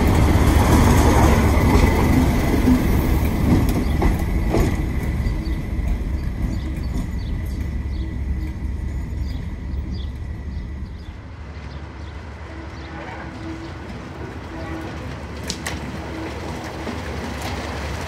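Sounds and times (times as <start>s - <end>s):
diesel locomotive passing: 0.0s - 18.0s.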